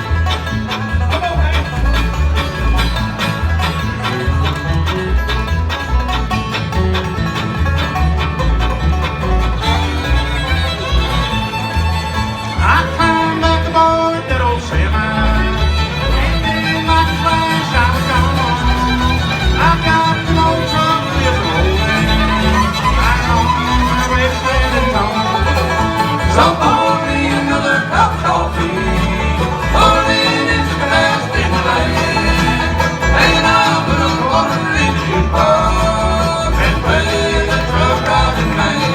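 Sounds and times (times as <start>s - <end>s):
bluegrass band playing: 0.0s - 38.9s
fiddle sliding melody: 0.0s - 38.9s.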